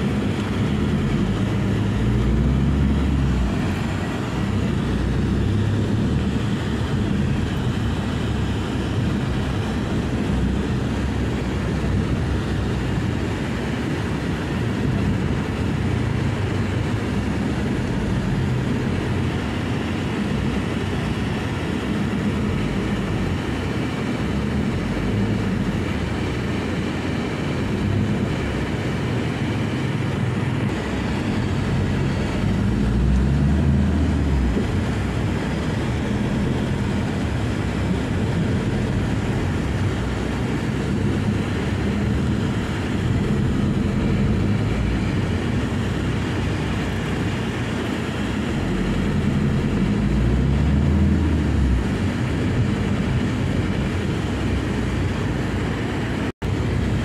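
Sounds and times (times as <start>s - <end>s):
van engine and road rumble: 0.0s - 57.0s.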